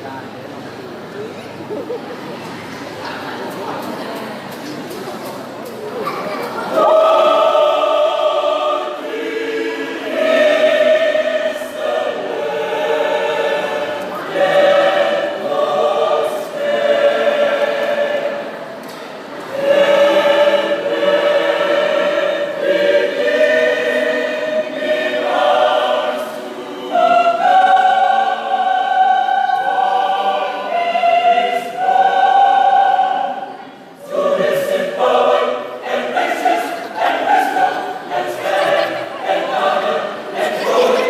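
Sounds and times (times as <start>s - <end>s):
choir singing in harmony: 6.0s - 41.0s.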